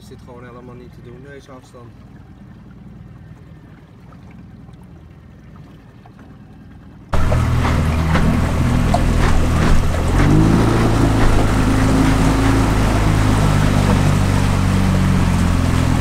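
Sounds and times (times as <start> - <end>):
boat motor running: 0.0 - 16.0
wind and water hiss: 0.0 - 16.0.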